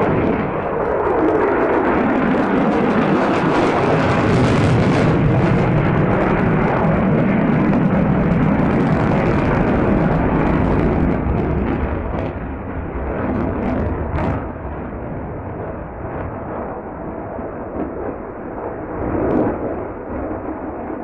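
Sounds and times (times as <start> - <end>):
fighter jet flying past: 0.0 - 21.0.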